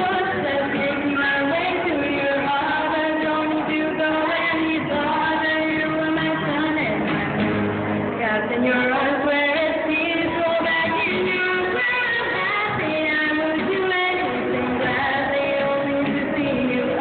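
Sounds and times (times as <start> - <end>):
woman singing through speakers: 0.0 - 17.0.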